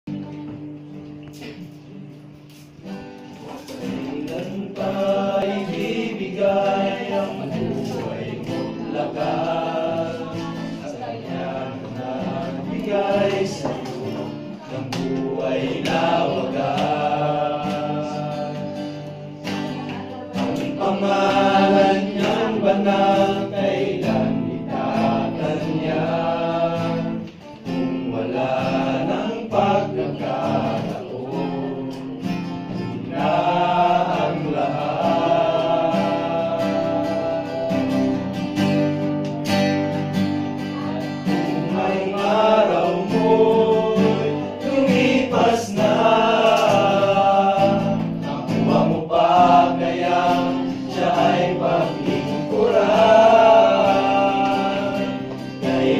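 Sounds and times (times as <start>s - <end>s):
strummed acoustic guitar: 0.0s - 55.9s
men singing a worship song: 3.3s - 38.7s, 41.2s - 55.9s.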